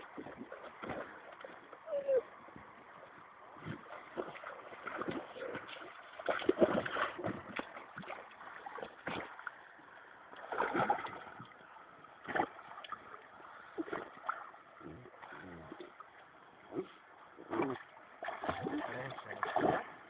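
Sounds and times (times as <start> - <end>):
river water splashing: 0.0 - 20.0.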